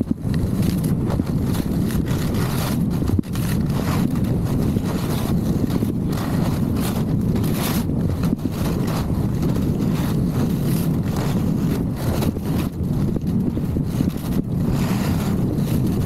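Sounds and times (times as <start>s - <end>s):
skis scraping on packed snow: 0.0s - 16.0s
wind buffeting microphone: 0.0s - 16.0s.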